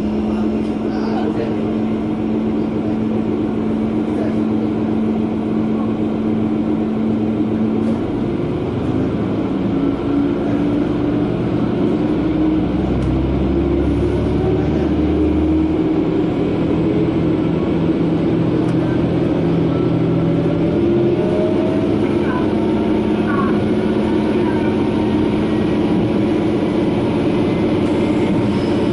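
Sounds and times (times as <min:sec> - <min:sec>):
diesel train engine: 0:00.0 - 0:28.9.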